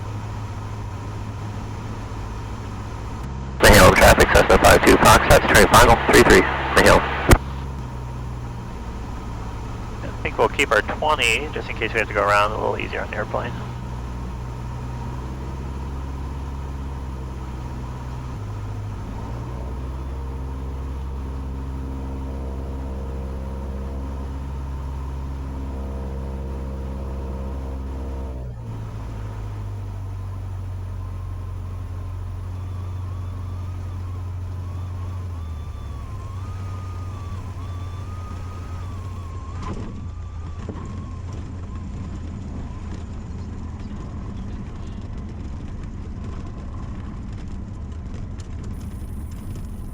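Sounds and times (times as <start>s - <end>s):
propeller plane engine droning: 0.0s - 47.6s.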